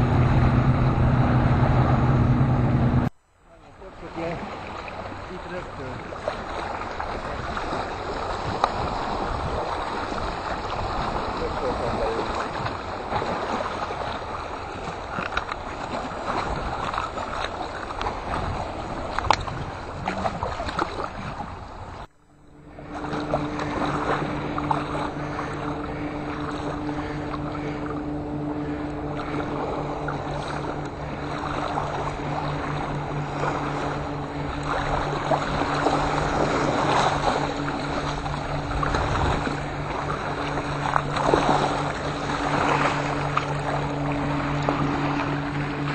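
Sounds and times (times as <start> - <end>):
wind on microphone: 0.0 - 3.1, 6.1 - 22.0, 22.7 - 45.9
boat engine humming: 0.0 - 45.9
water sloshing and splashing: 3.8 - 45.9.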